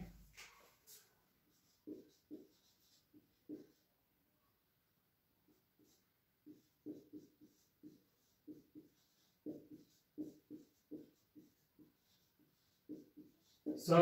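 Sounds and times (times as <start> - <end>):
marker pen writing on whiteboard: 0.4 - 3.9, 5.4 - 14.0.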